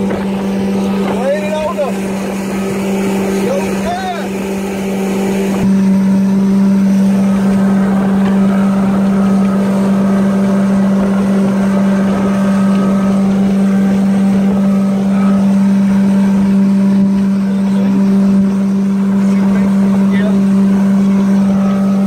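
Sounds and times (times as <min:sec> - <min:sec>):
outboard motor droning: 0:00.0 - 0:22.0
wind and water spray rushing: 0:00.0 - 0:22.0.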